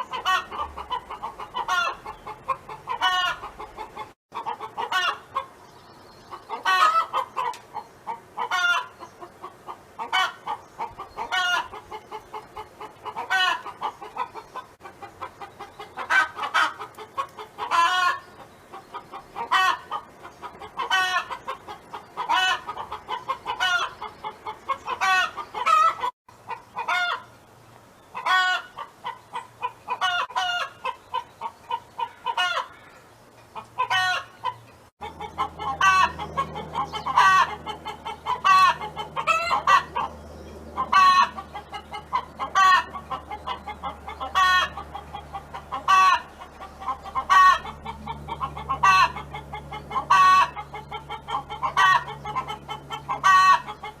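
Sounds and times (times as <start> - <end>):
hen clucking: 0.0 - 27.3, 28.1 - 54.0.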